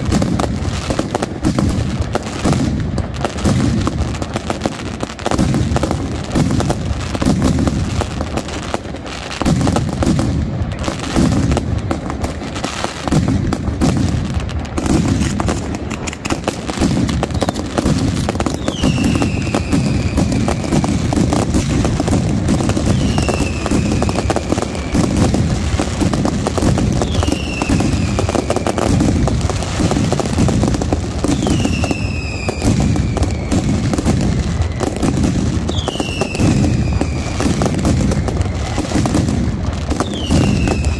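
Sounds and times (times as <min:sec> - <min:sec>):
firecracker barrage rattling bangs: 0:00.0 - 0:40.9
whistling firework: 0:00.0 - 0:40.9.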